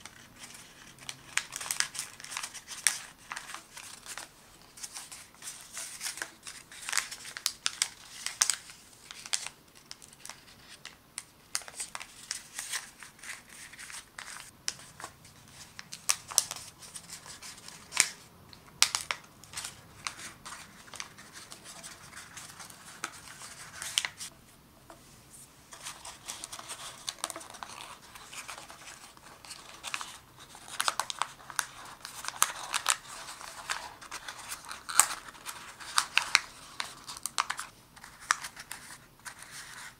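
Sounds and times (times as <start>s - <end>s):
paper being folded and creased: 0.0s - 18.2s, 18.8s - 24.3s, 25.7s - 39.9s.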